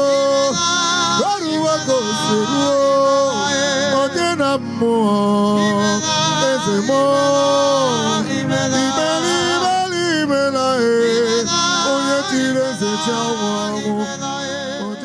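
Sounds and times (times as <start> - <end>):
instrumental backing: 0.0 - 15.0
man singing worship song: 0.0 - 15.0.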